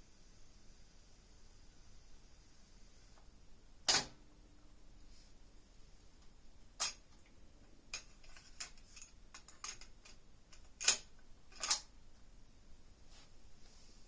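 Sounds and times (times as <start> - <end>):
faint high hiss: 0.0 - 9.1, 10.2 - 14.0.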